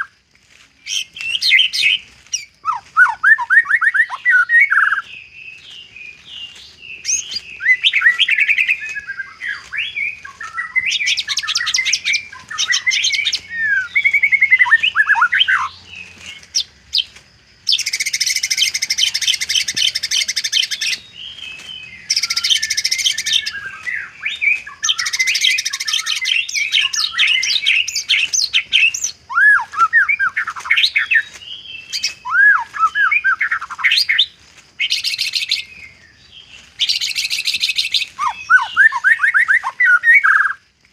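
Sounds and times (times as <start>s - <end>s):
songbird singing whistles and trills: 0.0s - 0.2s, 0.8s - 40.9s.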